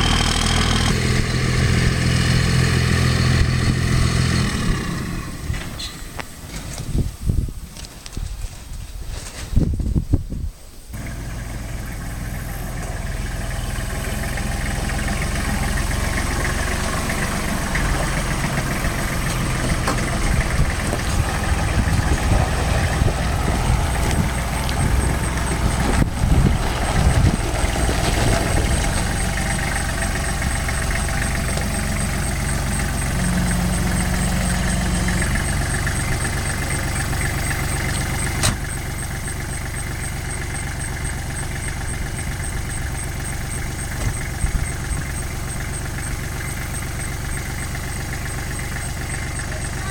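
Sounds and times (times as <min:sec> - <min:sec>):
engine idling: 0:00.0 - 0:06.5, 0:11.0 - 0:49.9.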